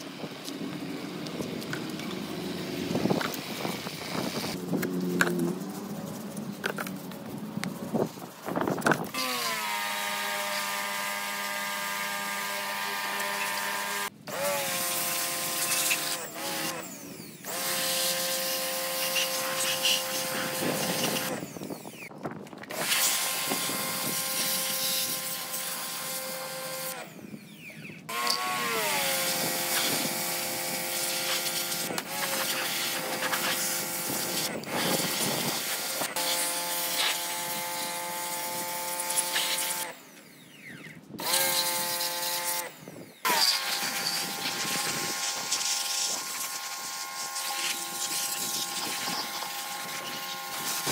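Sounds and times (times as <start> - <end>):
electric power tool whining: 0.0 - 7.0, 8.6 - 50.9.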